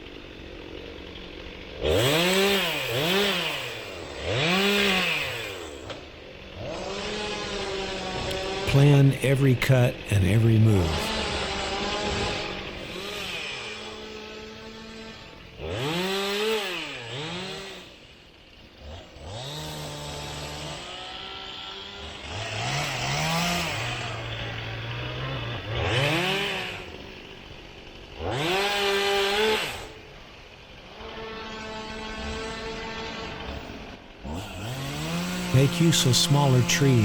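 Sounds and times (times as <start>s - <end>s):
chainsaw engine revving: 0.7s - 8.6s, 11.1s - 18.0s, 18.8s - 27.2s, 28.1s - 30.0s, 31.0s - 35.5s.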